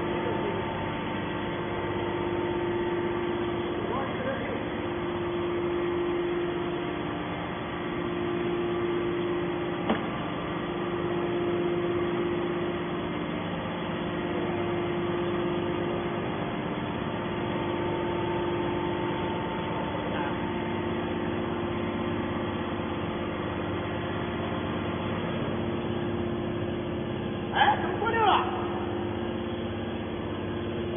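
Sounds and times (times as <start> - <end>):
hydraulic pump humming and whining: 0.0 - 30.9.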